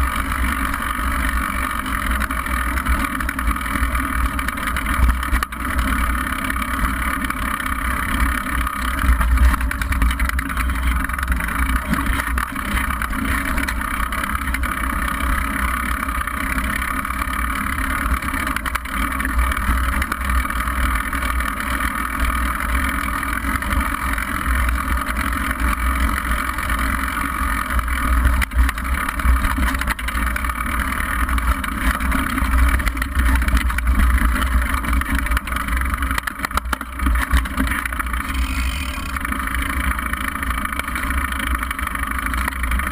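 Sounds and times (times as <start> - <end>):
bike tyres rolling on dirt: 0.0 - 42.9.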